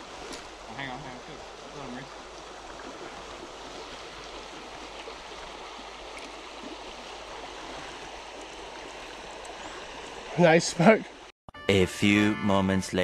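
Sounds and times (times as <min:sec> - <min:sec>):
stream flowing: 0:00.0 - 0:11.3.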